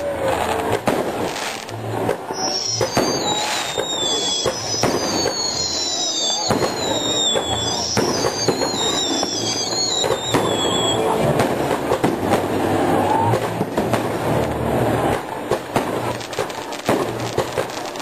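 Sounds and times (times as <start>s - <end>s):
fireworks crackling and banging: 0.0s - 18.0s
fireworks whistling: 0.4s - 18.0s.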